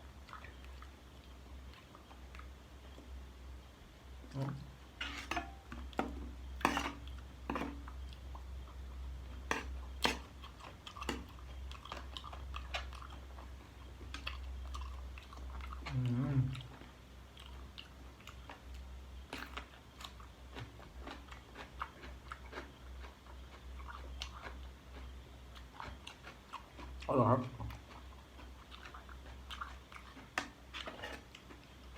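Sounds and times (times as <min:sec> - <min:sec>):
person chewing with wet crunches: 0:00.0 - 0:03.2, 0:05.4 - 0:31.9.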